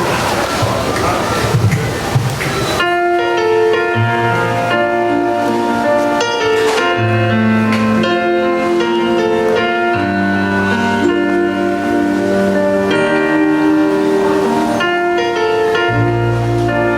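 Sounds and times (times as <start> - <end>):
keyboard chords: 1.5 - 16.9
live pop band playing: 2.4 - 16.9.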